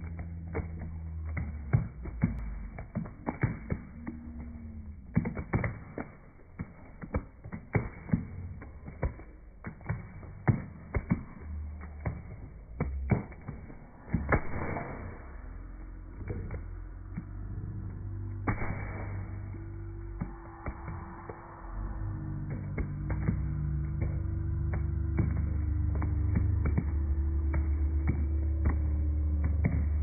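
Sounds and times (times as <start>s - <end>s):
hand claps: 0.0s - 30.0s
low steady hum: 0.0s - 30.0s.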